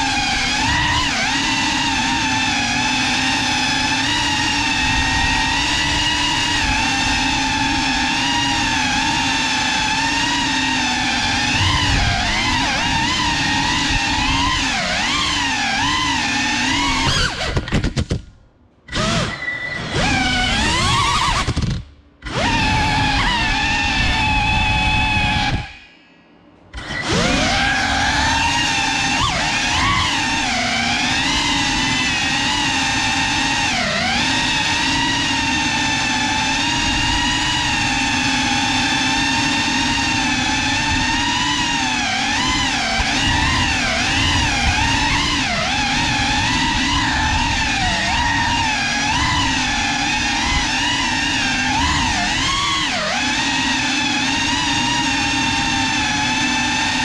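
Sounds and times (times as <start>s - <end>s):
drone motors whining: 0.0s - 18.2s, 18.9s - 57.0s.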